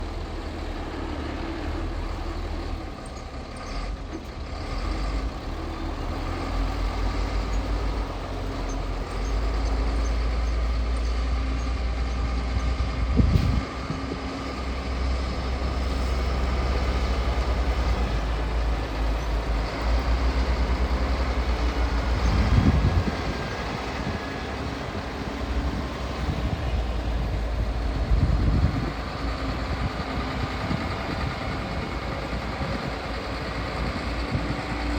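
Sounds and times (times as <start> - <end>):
excavator diesel engine rumble: 0.0 - 34.9.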